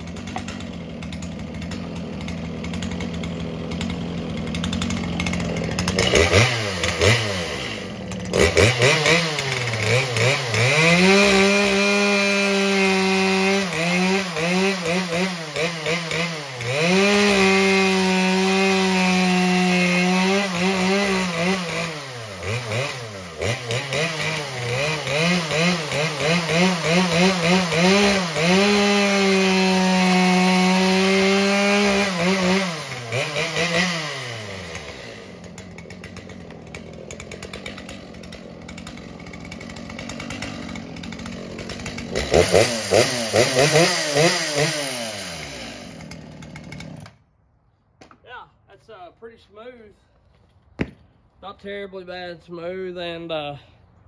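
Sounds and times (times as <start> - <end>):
chainsaw cutting wood: 0.0 - 47.3.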